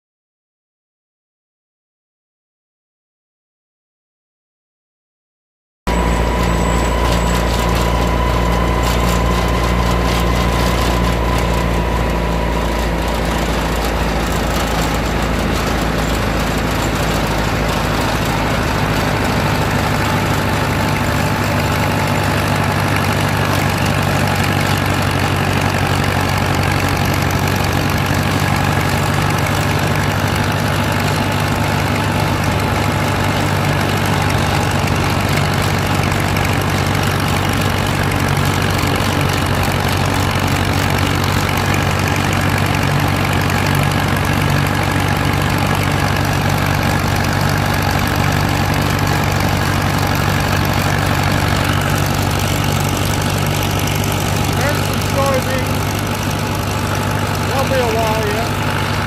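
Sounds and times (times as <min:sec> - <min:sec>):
tractor engine running: 0:05.9 - 0:59.0.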